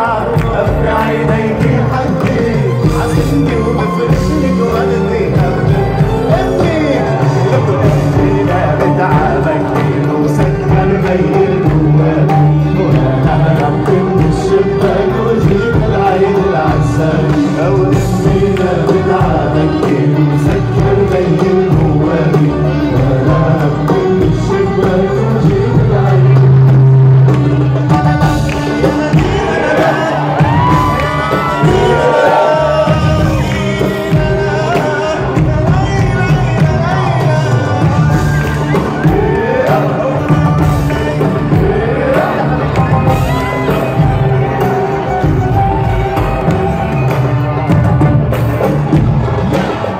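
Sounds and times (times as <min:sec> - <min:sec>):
arabic-style pop music by band: 0:00.0 - 0:49.9
steady percussion beat: 0:00.0 - 0:49.9.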